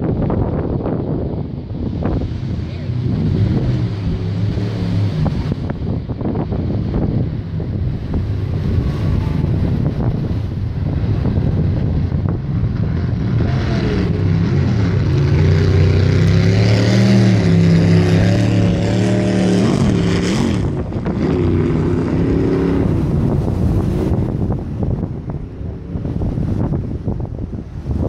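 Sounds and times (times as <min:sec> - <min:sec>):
jet boat engine running hard: 0:00.0 - 0:28.0
wind on microphone: 0:00.0 - 0:28.0
rushing whitewater: 0:01.6 - 0:28.0.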